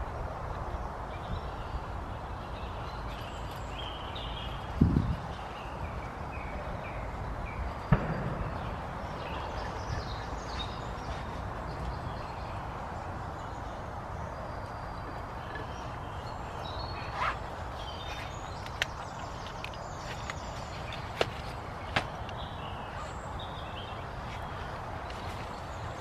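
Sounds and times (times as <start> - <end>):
outdoor background noise: 0.0 - 26.0
small birds chirping: 0.7 - 26.0.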